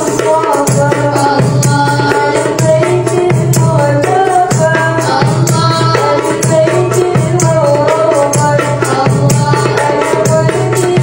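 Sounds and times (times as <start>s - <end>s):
hand drum beat: 0.0s - 11.0s
jingling hand tambourines: 0.0s - 11.0s
women singing into microphones: 0.0s - 11.0s.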